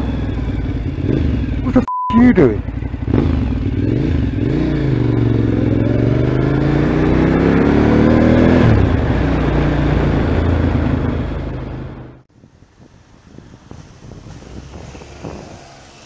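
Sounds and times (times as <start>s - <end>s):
wind and road noise: 0.0s - 1.7s, 2.3s - 16.0s
motorcycle engine accelerating: 0.0s - 16.0s.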